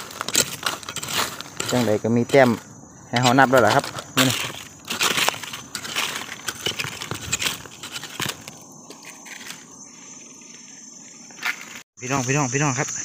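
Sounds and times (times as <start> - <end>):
dry leaves crackling and rustling: 0.0 - 10.6
insects trilling: 0.0 - 13.0.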